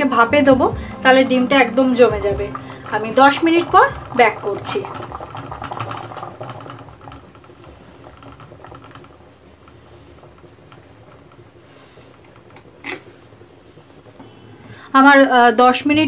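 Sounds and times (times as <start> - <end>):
water simmering: 0.0 - 16.0.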